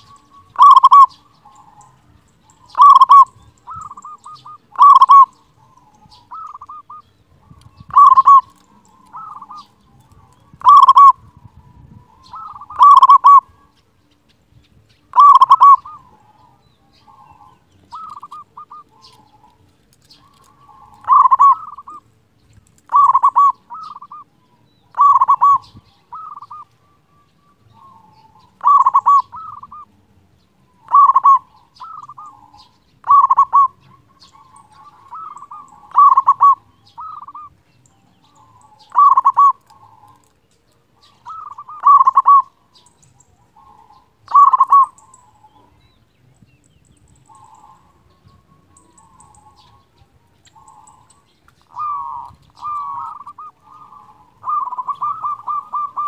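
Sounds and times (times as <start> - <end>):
dove cooing: 0.0 - 13.7, 15.1 - 22.1, 22.7 - 30.1, 30.7 - 46.0, 47.1 - 56.0.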